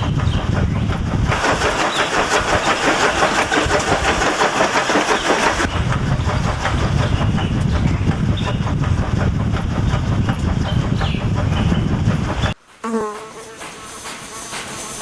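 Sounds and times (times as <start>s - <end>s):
harsh rattling diesel engine: 0.0s - 12.5s
locomotive running rhythm: 0.0s - 12.6s, 13.2s - 15.0s.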